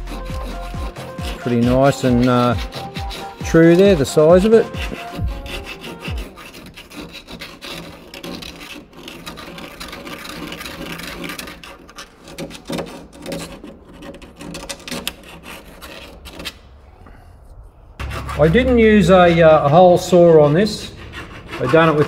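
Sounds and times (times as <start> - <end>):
file rasping on steel: 0.0 - 16.6, 18.0 - 22.0.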